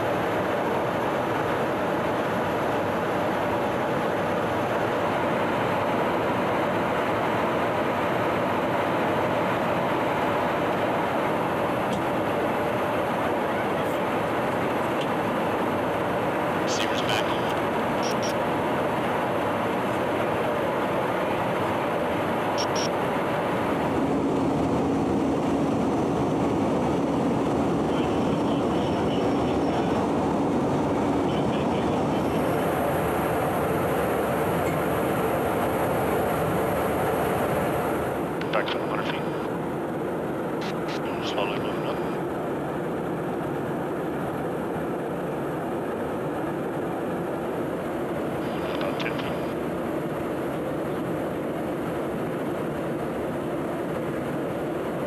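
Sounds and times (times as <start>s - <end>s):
aircraft engines and airflow: 0.0s - 55.0s
steady low hum: 0.0s - 55.0s.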